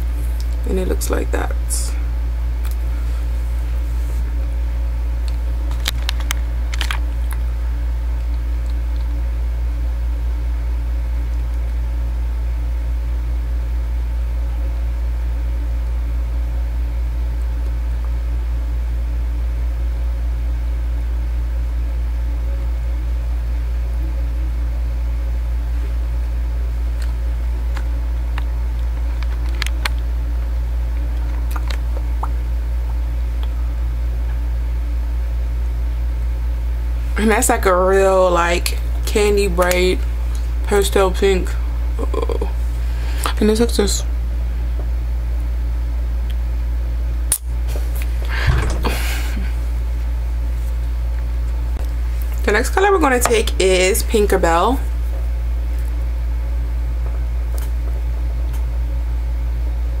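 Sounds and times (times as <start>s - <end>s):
low electrical hum: 0.0s - 60.0s.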